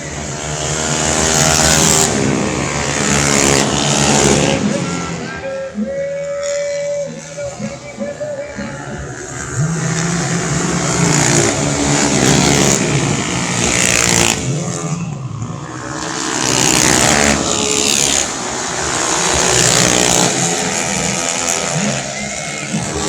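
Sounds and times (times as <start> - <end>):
scooter engines revving: 0.0 - 23.0.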